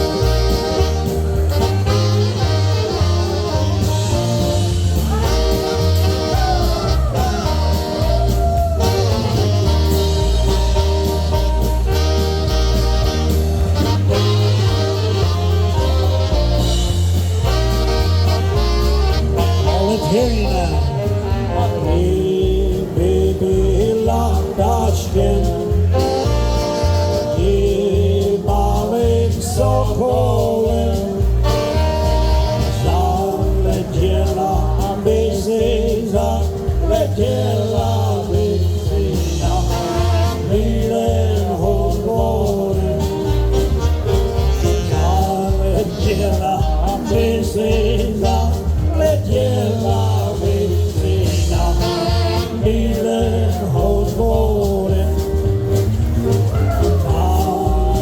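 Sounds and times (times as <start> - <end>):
polka band playing: 0.0 - 58.0
pulsing bass beat: 0.0 - 58.0.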